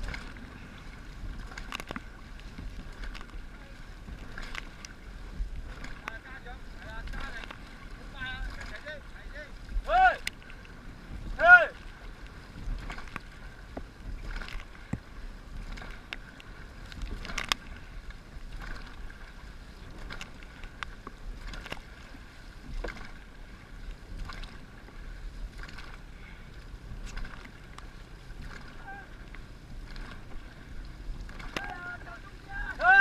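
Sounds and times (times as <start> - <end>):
paddle splashes and knocks: 0.0 - 33.0
water washing: 0.0 - 33.0
wind rumbling on microphone: 0.0 - 33.0.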